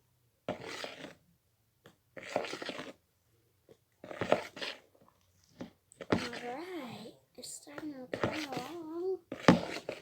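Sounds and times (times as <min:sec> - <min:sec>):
slime stirred with spoon: 0:00.4 - 0:10.0.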